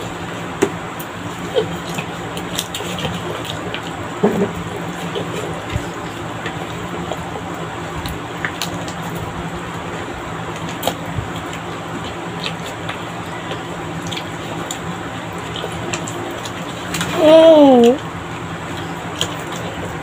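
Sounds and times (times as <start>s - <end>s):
steady low hum: 0.0s - 20.0s
wet chewing and mouth noises: 0.0s - 20.0s.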